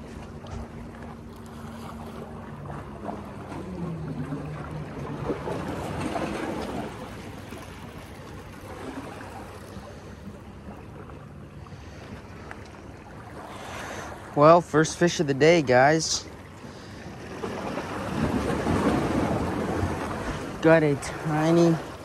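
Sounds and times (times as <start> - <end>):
low motor hum: 0.0 - 22.0
water lapping at rocks: 0.0 - 22.0.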